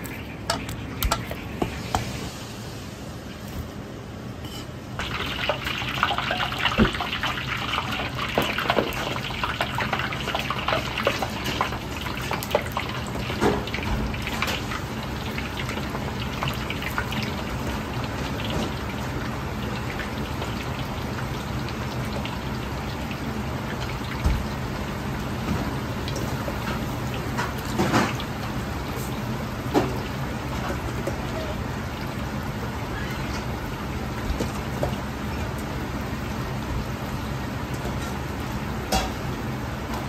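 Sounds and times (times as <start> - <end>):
chicken deep-frying in oil: 0.0 - 40.0.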